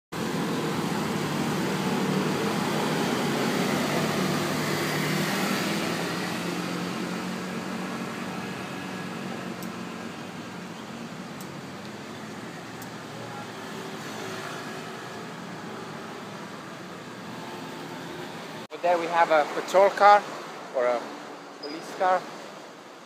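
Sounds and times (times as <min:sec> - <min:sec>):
motor scooter engines: 0:00.2 - 0:18.7.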